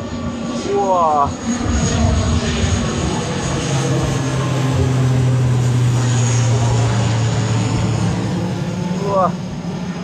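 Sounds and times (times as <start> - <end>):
airplane engines droning overhead: 0.0 - 10.0
broad rushing noise: 0.0 - 10.0.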